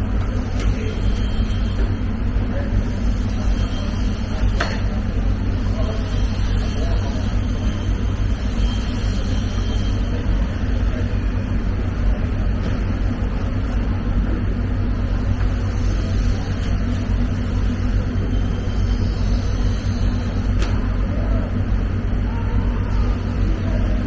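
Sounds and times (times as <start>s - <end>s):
low machinery rumble: 0.0s - 24.0s.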